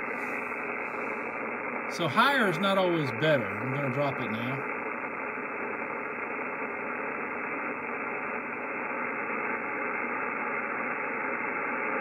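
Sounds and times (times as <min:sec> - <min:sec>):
radio receiver static hiss: 0:00.0 - 0:12.0.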